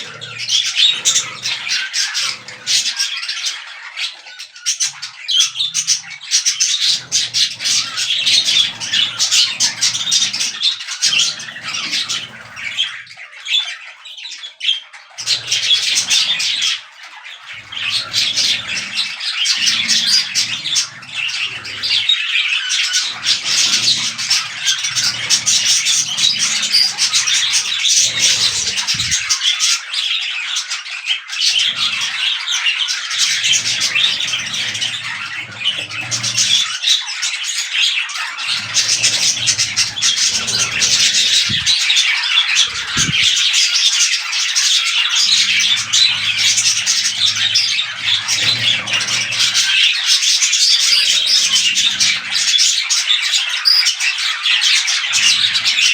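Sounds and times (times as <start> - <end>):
budgerigars chattering and chirping: 0.0 - 55.9.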